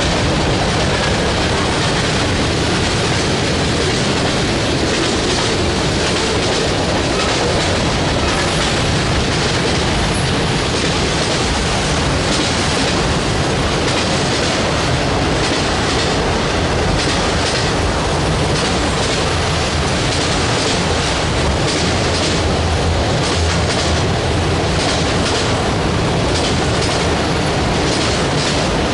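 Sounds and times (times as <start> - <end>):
freight train wheels rumbling on rail: 0.0 - 28.9
wheels clicking over rail joints: 0.0 - 28.9.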